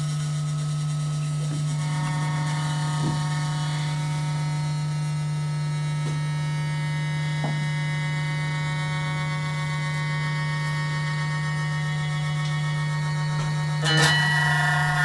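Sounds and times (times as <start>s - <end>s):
electric guitar drone: 1.8s - 15.0s.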